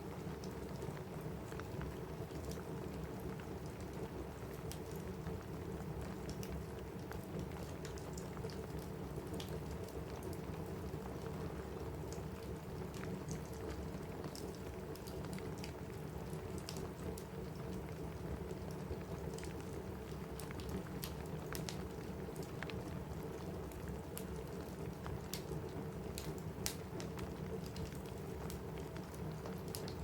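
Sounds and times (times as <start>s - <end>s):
rain on a roof: 0.0s - 30.0s
wood fire crackling: 0.1s - 30.0s.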